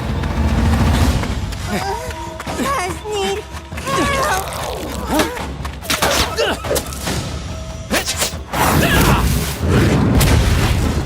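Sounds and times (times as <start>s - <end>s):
cartoon action music: 0.4s - 11.0s.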